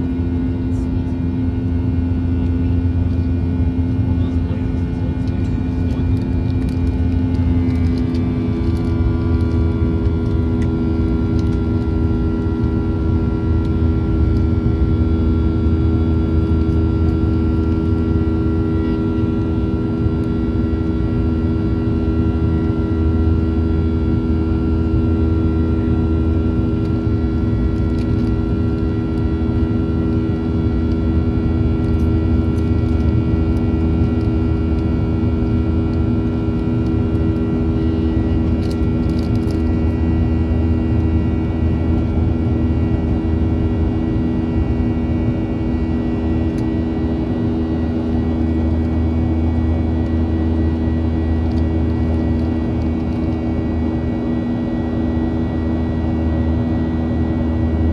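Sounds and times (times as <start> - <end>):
jet engine cabin rumble: 0.0 - 57.9.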